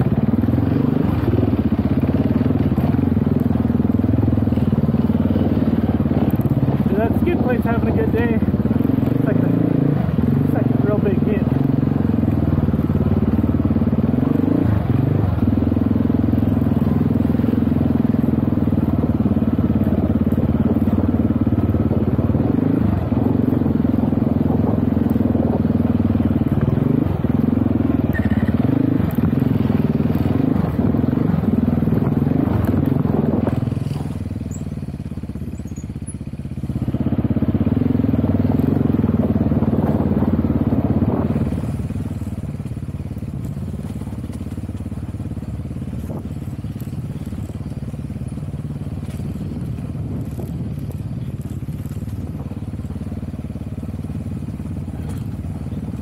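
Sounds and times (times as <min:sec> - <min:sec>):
dirt bike engine running hard: 0:00.0 - 0:56.0.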